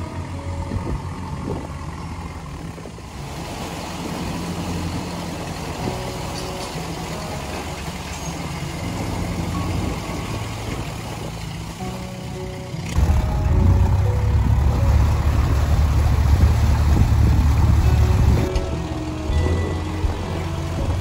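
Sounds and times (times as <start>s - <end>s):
boat diesel engine humming: 0.0s - 21.0s.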